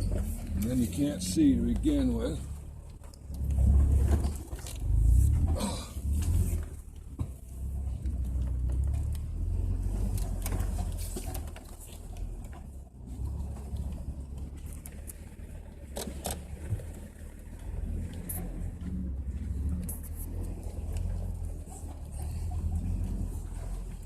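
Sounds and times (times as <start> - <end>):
engine rumbling at low speed: 0.0 - 24.0.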